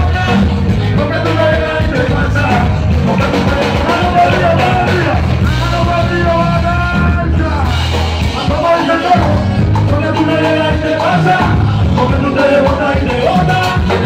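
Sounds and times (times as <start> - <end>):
heavy bass line: 0.0 - 14.0
live band music: 0.0 - 14.0
man singing into a microphone: 0.0 - 14.0.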